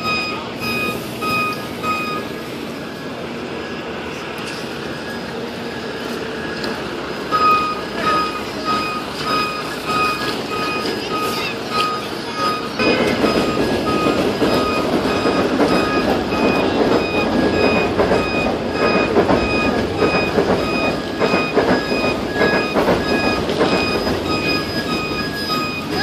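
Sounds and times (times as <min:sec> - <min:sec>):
high electronic beeps: 0:00.0 - 0:02.3, 0:07.3 - 0:26.0
diesel engine rumbling: 0:00.0 - 0:26.0.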